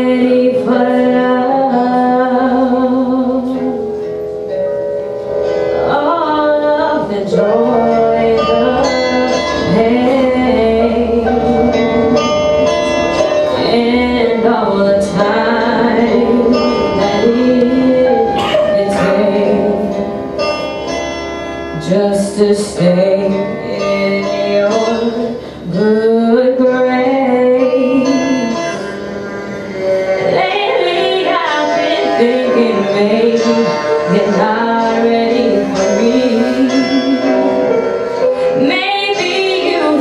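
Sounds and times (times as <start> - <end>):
woman singing into a microphone: 0.0 - 4.1, 5.8 - 11.9, 13.4 - 20.3, 21.7 - 28.9, 30.2 - 40.0
backing track with plucked strings: 0.0 - 40.0.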